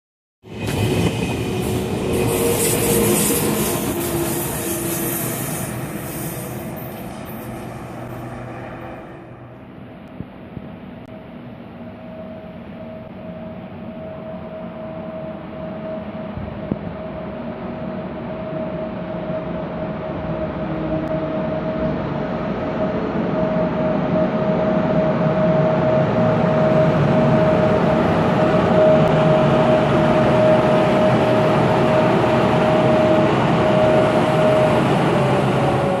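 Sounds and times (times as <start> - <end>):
train rumble and wheel noise: 0.4 - 36.0
steady high whine: 0.5 - 36.0.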